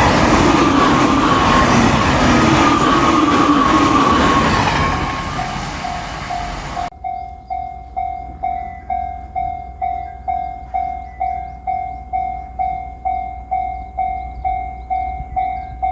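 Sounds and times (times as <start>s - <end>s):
passing train noise: 0.0s - 15.9s
railroad crossing alarm ringing: 0.0s - 15.9s.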